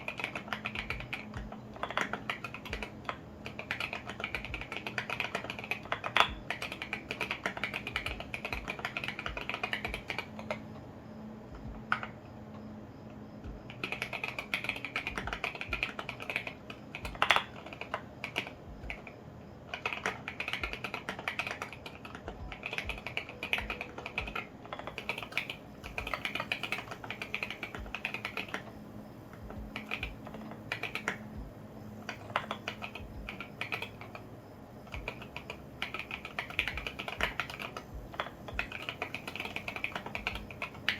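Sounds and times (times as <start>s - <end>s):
mechanical keyboard typing: 0.0s - 10.9s, 11.5s - 40.9s.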